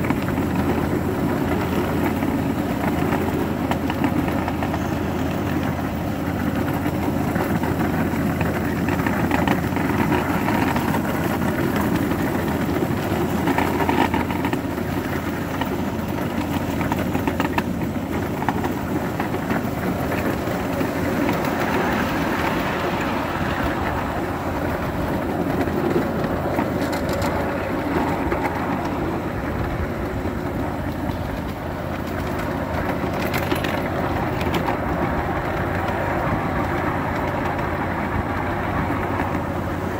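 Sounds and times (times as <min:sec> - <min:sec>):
model trains rumbling: 0:00.0 - 0:39.9.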